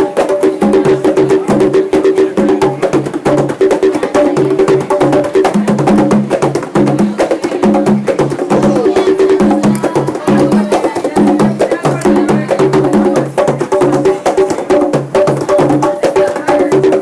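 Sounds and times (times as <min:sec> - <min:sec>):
drummers playing fast groove: 0:00.0 - 0:17.0.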